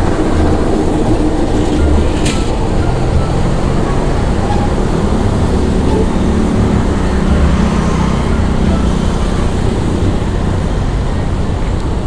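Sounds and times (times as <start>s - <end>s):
motorcycles running: 0.0s - 12.0s
road traffic rumble: 0.0s - 12.0s.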